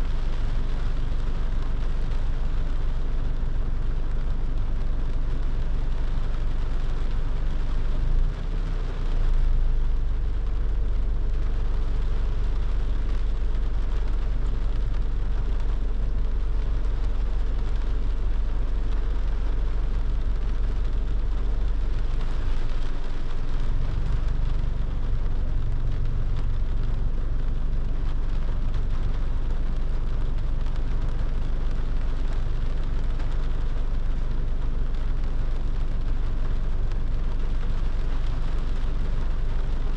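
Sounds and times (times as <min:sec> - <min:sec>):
car rumbling on road: 0:00.0 - 0:39.9
rain and wet tyres hissing: 0:00.0 - 0:39.9.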